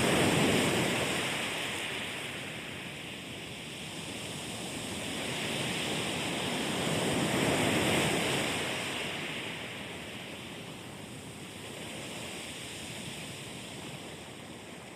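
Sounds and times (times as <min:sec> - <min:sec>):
ocean waves surf: 0:00.0 - 0:14.9.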